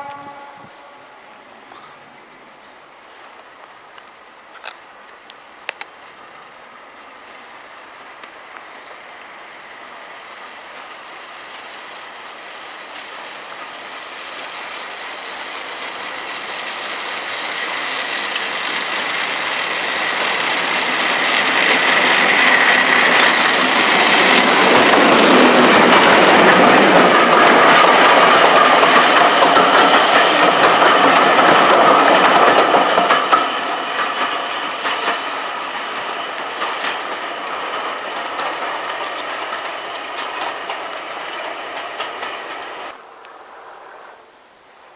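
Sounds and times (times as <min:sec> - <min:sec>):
train wheels clicking over rail joints: 0:00.0 - 0:43.0
diesel locomotive engine: 0:00.0 - 0:44.8.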